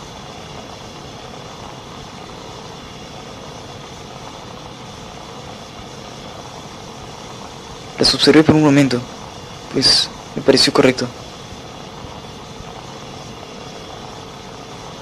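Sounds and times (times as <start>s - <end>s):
faint hum: 0.0s - 15.0s
steady background hiss: 0.0s - 15.0s.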